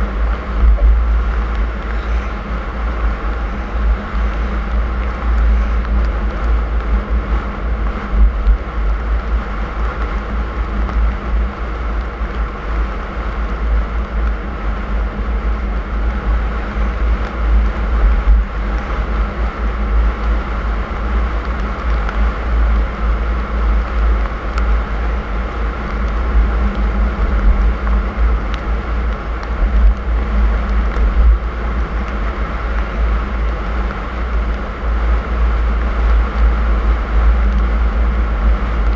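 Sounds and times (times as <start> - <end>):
engine and tyre rumble: 0.0 - 38.9.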